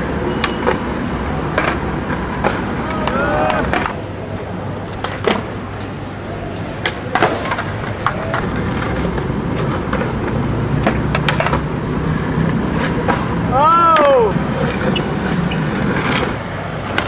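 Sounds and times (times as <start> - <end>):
skateboard clacks: 0.0 - 17.0
skateboard wheels rolling on concrete: 0.0 - 17.0.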